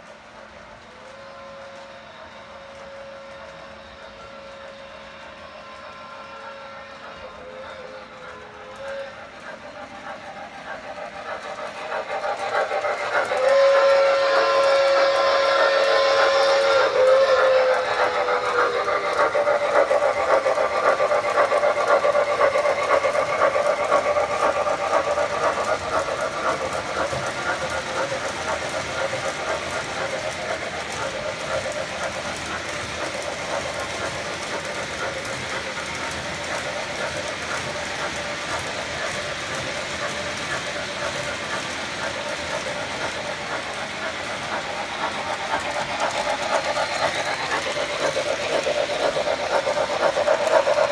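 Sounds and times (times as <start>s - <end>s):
model train rhythmic clatter: 0.0s - 50.9s
model train whistle: 0.7s - 43.2s.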